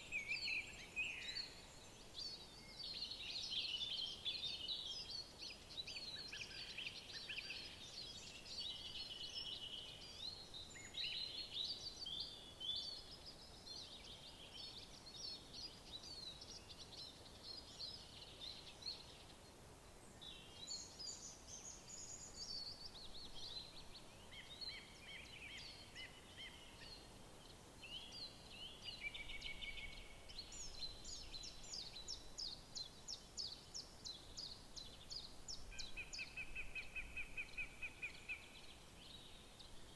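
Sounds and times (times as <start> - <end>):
songbirds chorus: 0.0 - 39.9.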